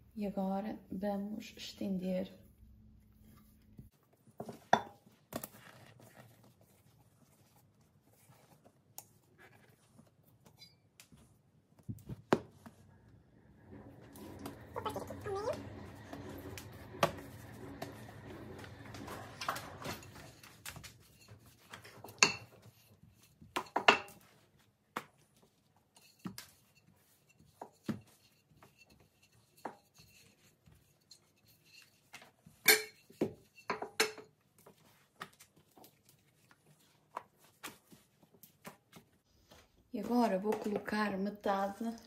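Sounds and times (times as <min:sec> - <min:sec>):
dough being handled: 0:03.1 - 0:41.8.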